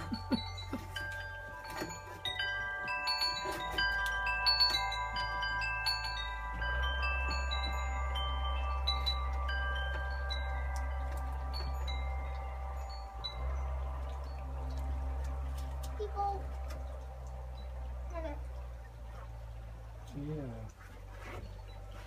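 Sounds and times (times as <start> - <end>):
wind chimes ringing: 0.0 - 18.8
low steady rumble: 0.0 - 22.0.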